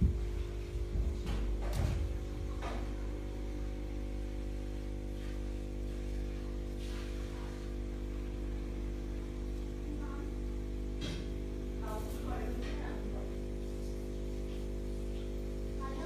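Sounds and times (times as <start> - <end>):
steady electric hum: 0.0 - 16.0.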